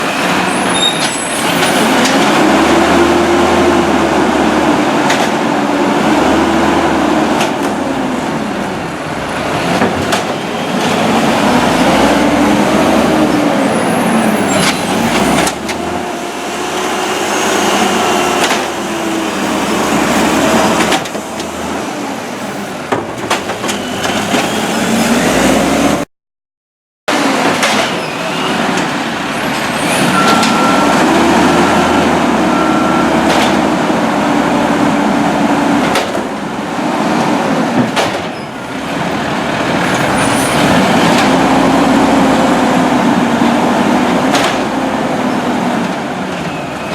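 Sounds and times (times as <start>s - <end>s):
truck engine revving: 0.0s - 26.1s, 28.3s - 37.8s, 38.6s - 46.9s.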